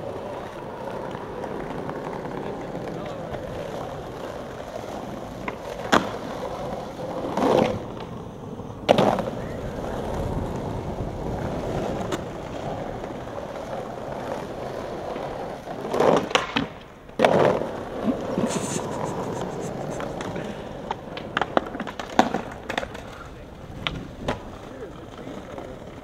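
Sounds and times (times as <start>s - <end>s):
skateboard trick impacts: 0.0s - 8.2s, 8.8s - 24.7s
sharp skateboard clacks: 0.0s - 26.0s
skateboard wheels rolling: 0.0s - 26.0s.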